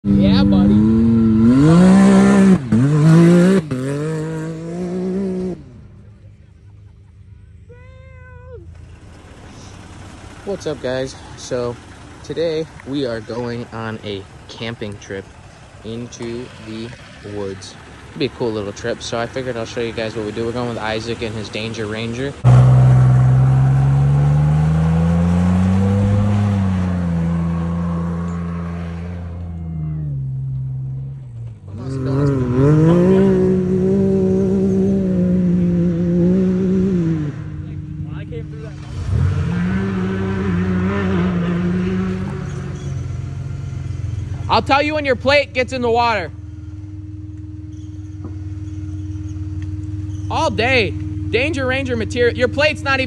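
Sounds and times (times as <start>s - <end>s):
truck engine revving: 0.0s - 7.7s, 8.5s - 53.0s
faint low engine rumble: 5.1s - 39.5s, 41.2s - 53.0s.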